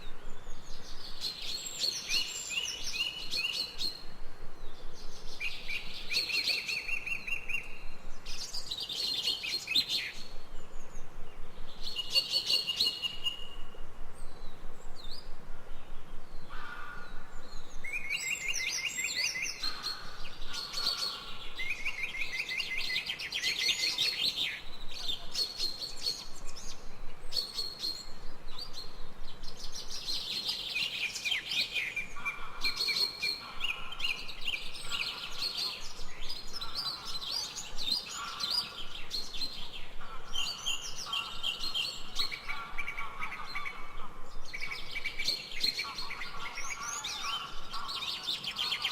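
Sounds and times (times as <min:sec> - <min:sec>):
songbirds singing trills: 0:00.0 - 0:48.9.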